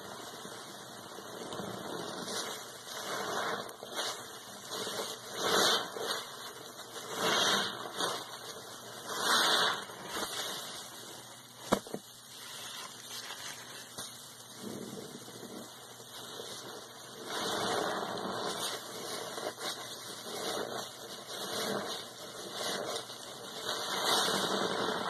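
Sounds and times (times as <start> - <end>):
wet sponge squelching: 1.4 - 11.0, 14.6 - 25.0.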